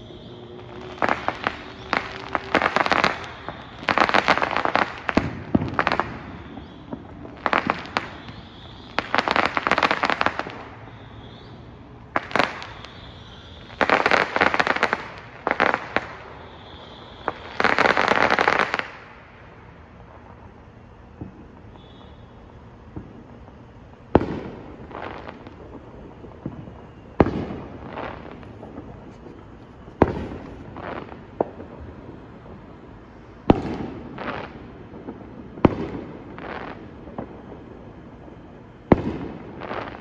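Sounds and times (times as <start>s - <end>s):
fireworks crackling pops: 0.0s - 20.5s, 21.1s - 40.0s.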